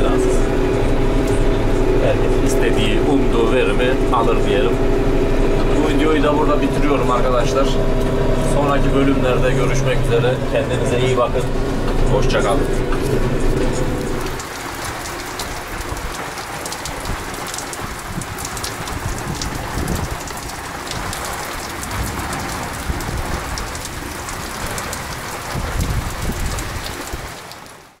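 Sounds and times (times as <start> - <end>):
low rumble: 0.0 - 26.9
heavy rain on paving and roof: 0.0 - 28.0.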